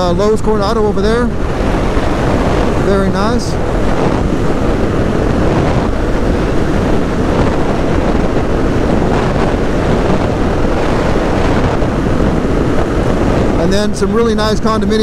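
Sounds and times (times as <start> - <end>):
motorcycle engine: 0.0 - 14.9
road noise: 0.0 - 15.0
wind rushing over microphone: 0.0 - 15.0.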